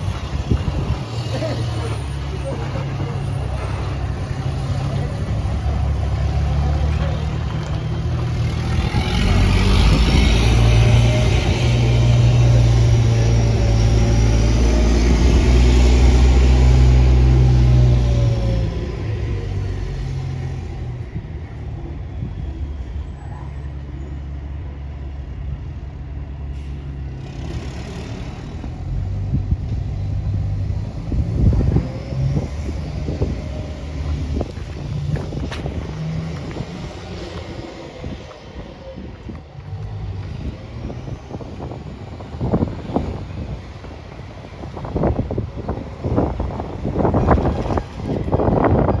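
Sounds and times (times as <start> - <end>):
diesel truck engine running: 0.0 - 23.2, 23.8 - 49.0.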